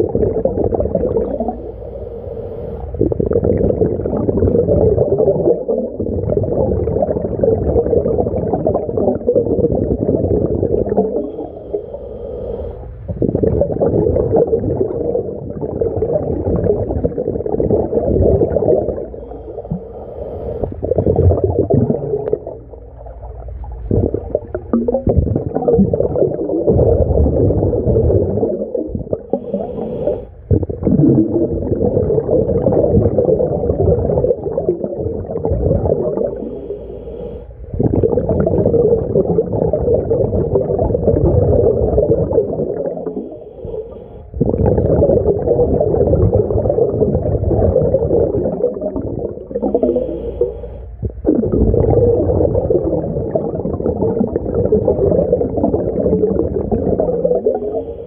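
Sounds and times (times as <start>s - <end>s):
underwater bubbles gurgling: 0.0s - 58.0s.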